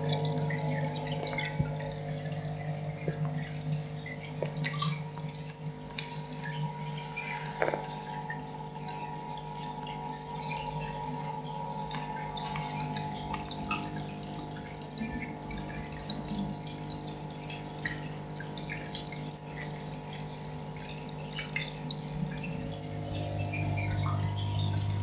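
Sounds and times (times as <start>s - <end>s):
low hum: 0.0s - 18.2s, 22.2s - 25.0s
aquarium water bubbling: 0.0s - 25.0s
tank pump hum: 0.0s - 25.0s.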